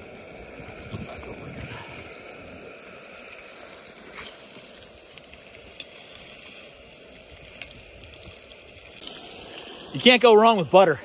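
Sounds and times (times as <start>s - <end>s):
fish sizzling in a frying pan: 0.0s - 11.0s.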